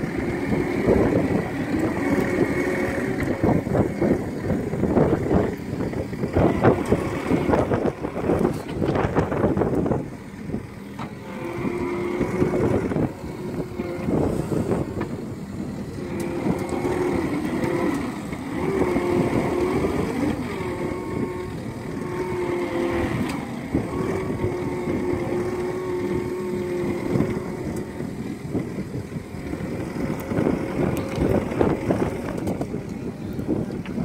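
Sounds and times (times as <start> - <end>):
loader engine and hydraulics: 0.0 - 34.0.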